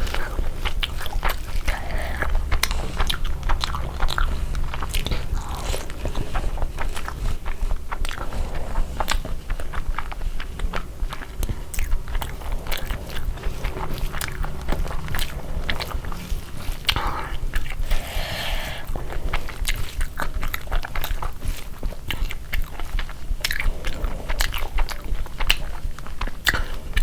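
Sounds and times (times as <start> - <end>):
chewing with crisp crunches: 0.0 - 27.0.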